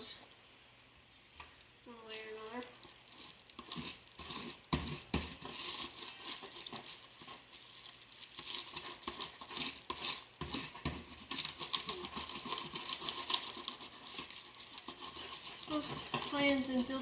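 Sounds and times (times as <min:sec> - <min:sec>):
plastic tarp crinkling: 0:02.1 - 0:17.0.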